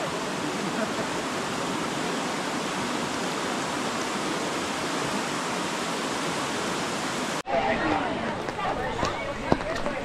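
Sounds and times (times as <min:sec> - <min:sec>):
water rushing: 0:00.0 - 0:09.5.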